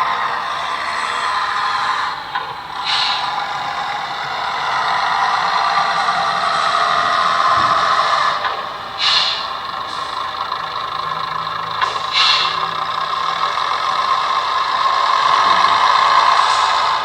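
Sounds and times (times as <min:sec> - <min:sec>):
model railcar diesel engine sound: 0:00.0 - 0:17.0.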